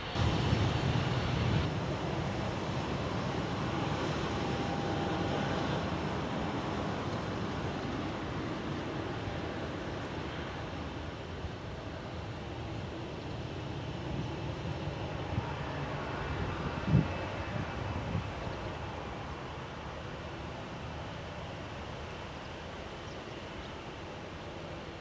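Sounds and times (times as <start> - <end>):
airliner engines running: 0.0 - 25.0.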